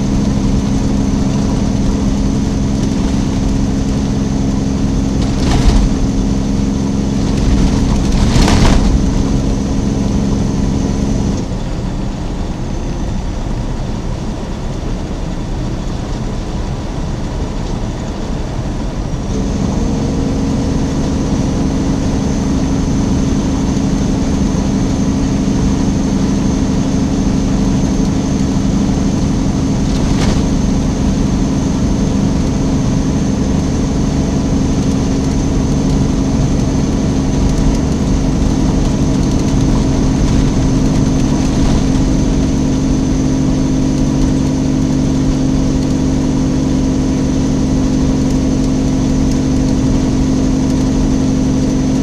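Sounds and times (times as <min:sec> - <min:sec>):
diesel engine drone in cab: 0:00.0 - 0:52.0.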